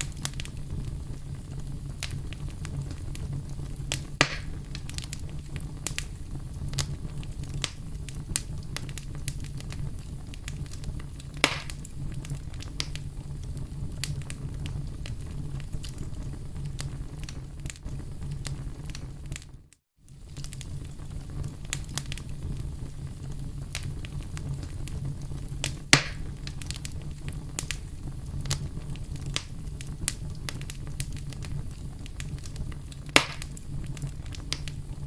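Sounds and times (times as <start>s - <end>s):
campfire crackling: 0.0s - 35.0s
loud fire pops: 0.0s - 35.0s.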